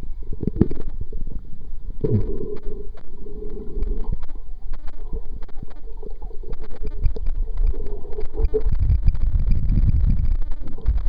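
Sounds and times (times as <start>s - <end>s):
underwater clicks and crackles: 0.0s - 11.0s
underwater rumble of moving water: 0.0s - 11.0s.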